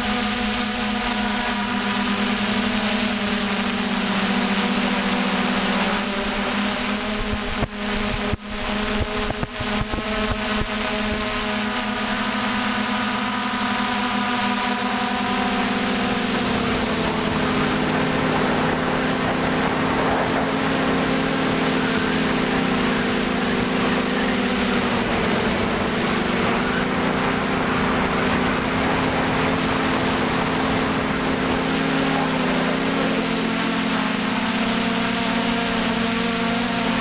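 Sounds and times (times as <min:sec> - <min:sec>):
drone propellers humming: 0:00.0 - 0:37.0.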